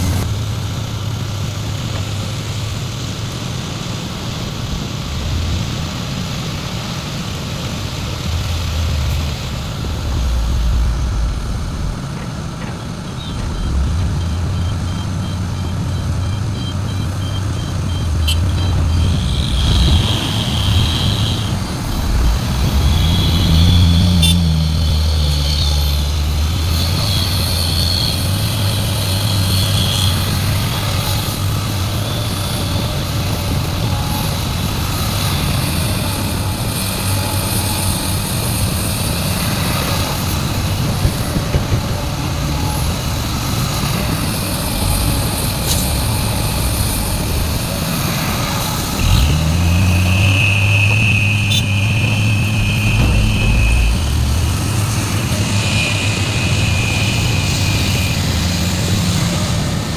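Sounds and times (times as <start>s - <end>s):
excavator diesel engine rumbling: 0.0s - 59.9s
high-pitched squeal: 4.2s - 59.9s.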